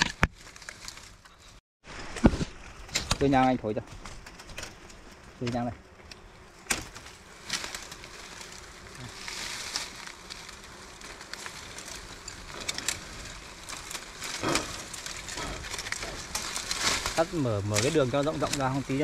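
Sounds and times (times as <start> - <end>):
clicks and rustles in dry bamboo: 0.0 - 19.0.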